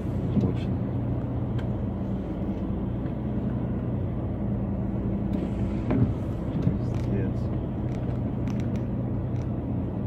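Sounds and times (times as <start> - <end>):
car engine hum from inside: 0.0 - 10.0.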